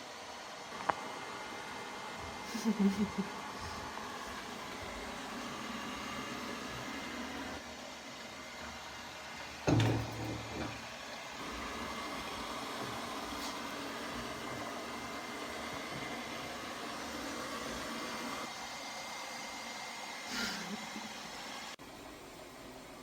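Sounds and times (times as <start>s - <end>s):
robot vacuum cleaner whirring: 0.0s - 23.0s.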